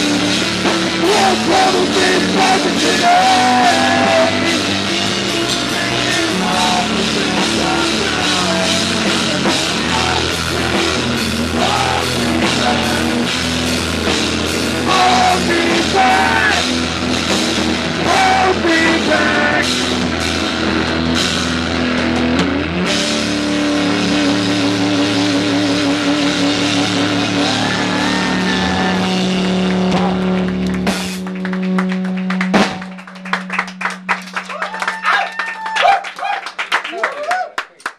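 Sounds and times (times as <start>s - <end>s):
live punk rock band: 0.0s - 35.8s.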